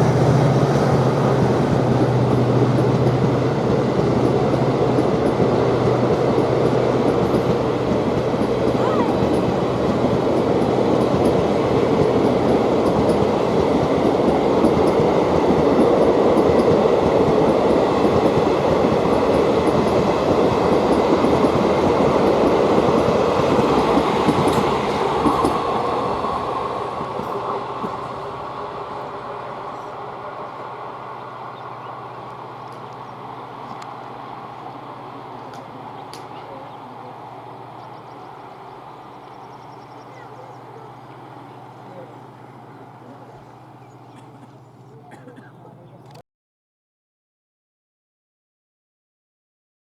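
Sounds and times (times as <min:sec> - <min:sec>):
train rumbling past on rails: 0:00.0 - 0:46.2.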